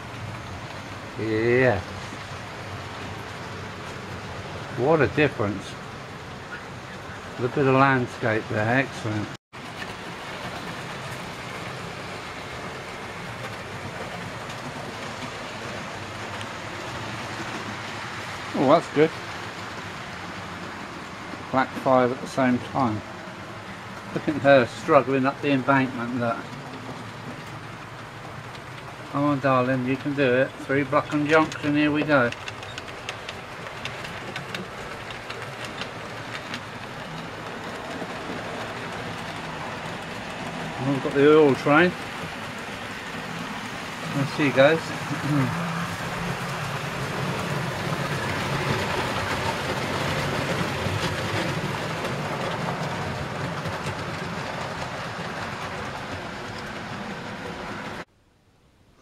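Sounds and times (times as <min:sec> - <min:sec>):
wheels rumbling on track: 0:00.0 - 0:58.1.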